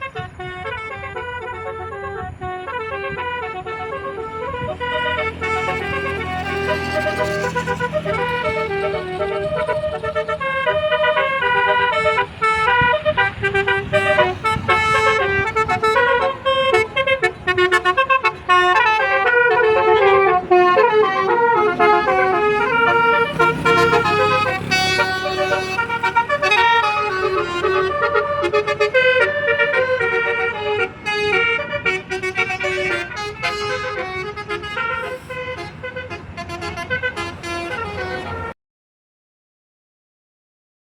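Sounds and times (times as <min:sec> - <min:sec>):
melodic bus air horn: 0:00.0 - 0:38.6.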